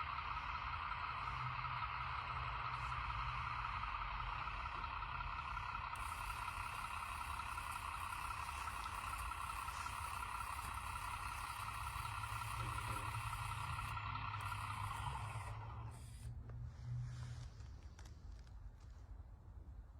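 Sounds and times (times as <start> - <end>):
high machinery whine: 0.0 - 16.3
engine rumble: 0.0 - 19.9.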